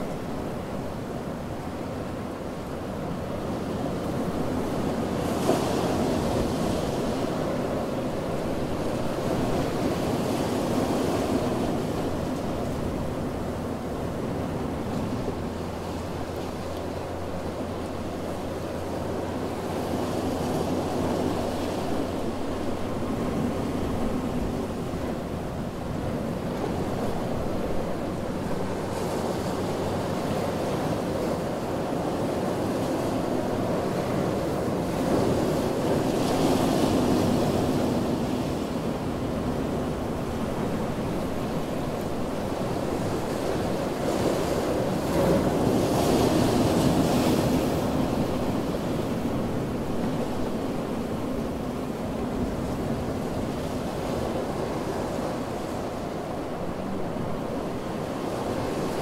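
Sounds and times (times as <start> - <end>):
large waves breaking: 0.0 - 59.0
ocean surf washing on beach: 0.0 - 59.0.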